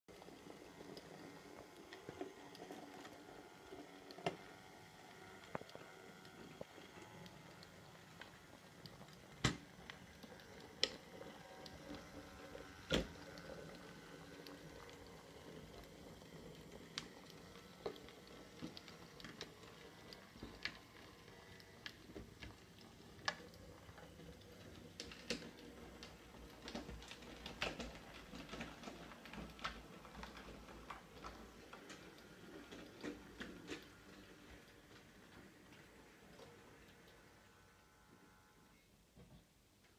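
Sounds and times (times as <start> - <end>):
wheels clicking on track: 0.1 - 37.5
model locomotive motor hum: 0.1 - 38.9.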